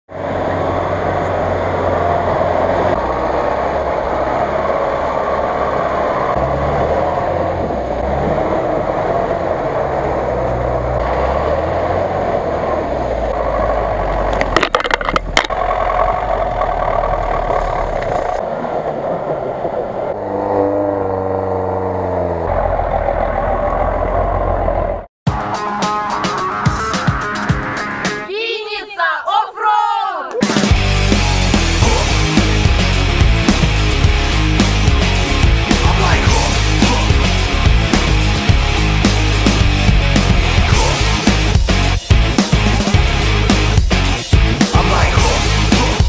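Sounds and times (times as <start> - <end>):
off-road vehicle engines revving: 0.1 - 25.1, 30.4 - 46.0.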